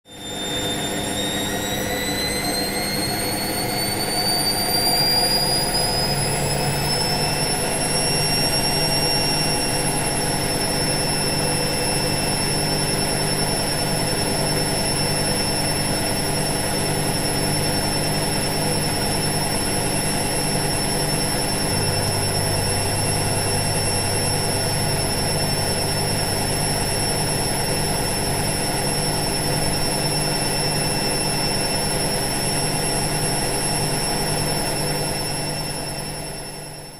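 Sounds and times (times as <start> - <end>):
washing machine spin whine: 0.0 - 36.9.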